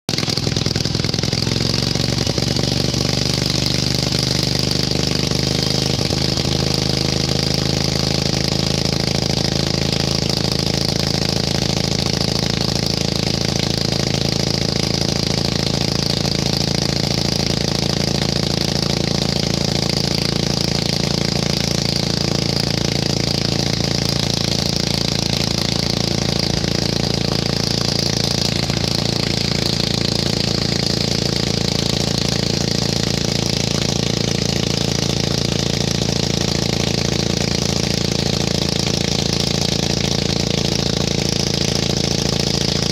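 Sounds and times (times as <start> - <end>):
lawn tractor engine running: 0.1 - 42.9.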